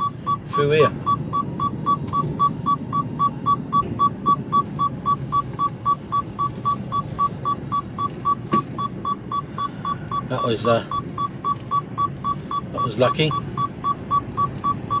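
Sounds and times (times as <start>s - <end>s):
diesel engine rumble: 0.0s - 15.0s
seatbelt warning beeping: 0.0s - 15.0s.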